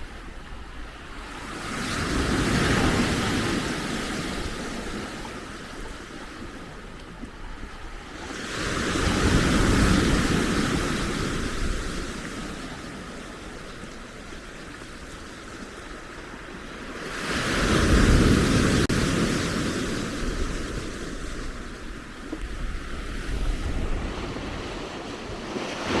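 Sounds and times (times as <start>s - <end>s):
blizzard wind: 0.0s - 26.0s
lake surf rushing: 0.0s - 26.0s.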